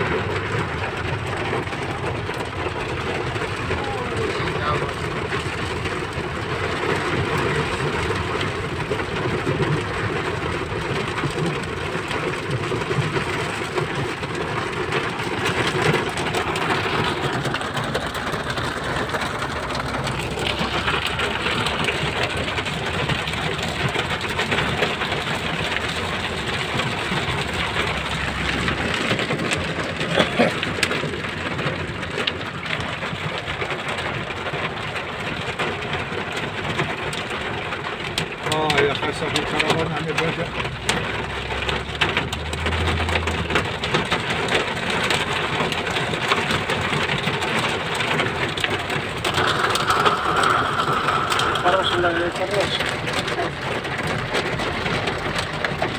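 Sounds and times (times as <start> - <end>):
heavy rain pattering: 0.0 - 55.9
low vehicle rumble: 0.0 - 55.9.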